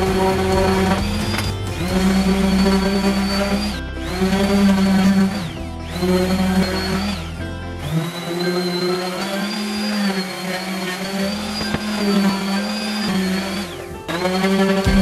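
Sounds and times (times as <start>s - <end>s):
background music: 0.0s - 15.0s
orbital sander whining on metal: 0.0s - 15.0s.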